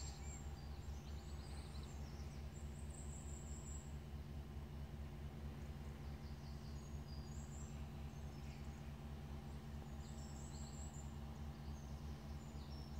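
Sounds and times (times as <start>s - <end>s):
small birds chirping and trilling: 0.0s - 4.7s, 5.5s - 12.9s
steady low hum: 0.0s - 12.9s.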